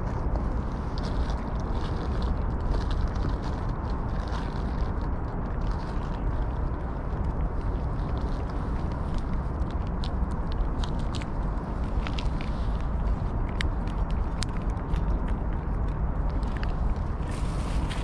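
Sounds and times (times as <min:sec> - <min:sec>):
cats chewing and licking: 0:00.0 - 0:18.0
steady low rumble: 0:00.0 - 0:18.0.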